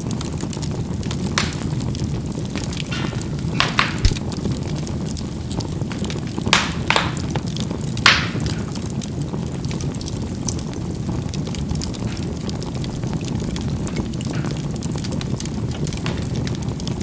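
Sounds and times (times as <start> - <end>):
coals popping: 0.0 - 17.0
low rush of flame: 0.0 - 17.0
faint crackling: 0.4 - 17.0.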